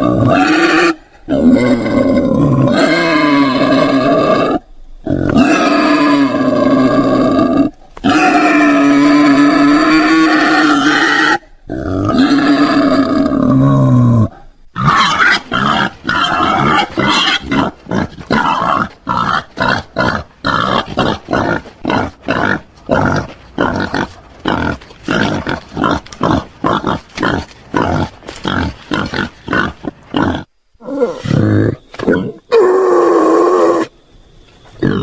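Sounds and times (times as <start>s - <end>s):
wild boar grunting: 0.0s - 33.9s.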